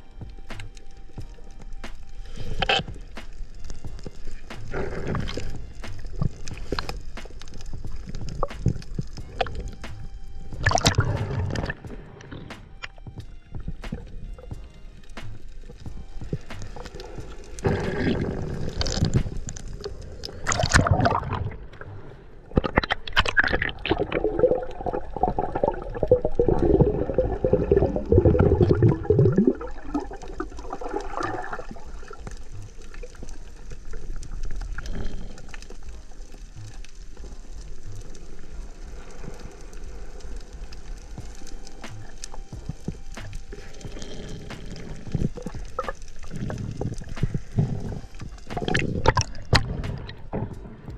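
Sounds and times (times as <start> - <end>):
water splashing: 0.8 - 50.9
water sloshing and gurgling: 2.3 - 50.9.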